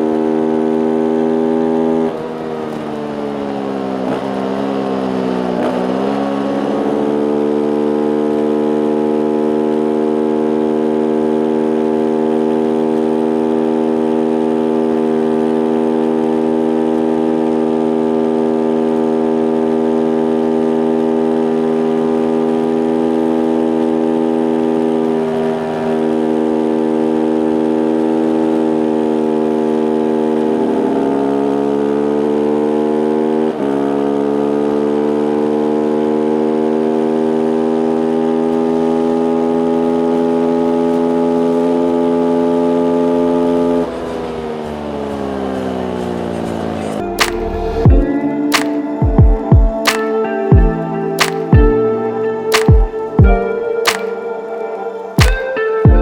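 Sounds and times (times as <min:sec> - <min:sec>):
motorcycle engine high-pitched drone: 0:00.0 - 0:56.0.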